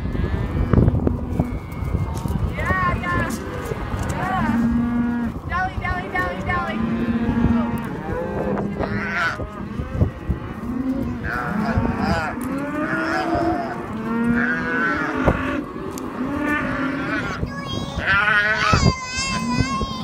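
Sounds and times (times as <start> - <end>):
cattle mooing: 0.0 - 2.2, 2.9 - 5.4, 6.0 - 17.4, 18.0 - 19.7.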